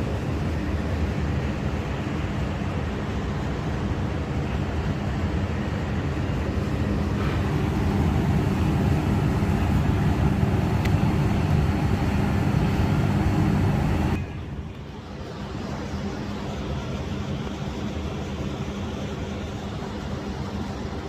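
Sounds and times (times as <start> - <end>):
low mechanical rumble: 0.0 - 21.0.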